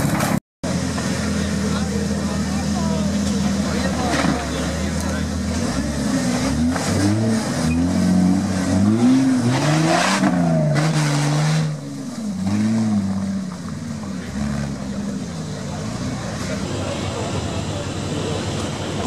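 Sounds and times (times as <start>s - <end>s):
engine revving under load: 1.2s - 19.0s.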